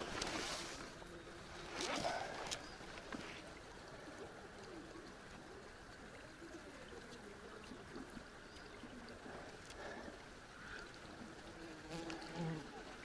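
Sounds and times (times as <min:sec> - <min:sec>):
river current flowing: 0:00.0 - 0:13.0.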